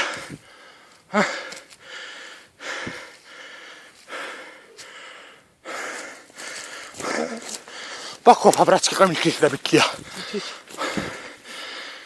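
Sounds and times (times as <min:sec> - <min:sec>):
heavy rapid breathing: 0:00.0 - 0:08.3, 0:09.7 - 0:12.0.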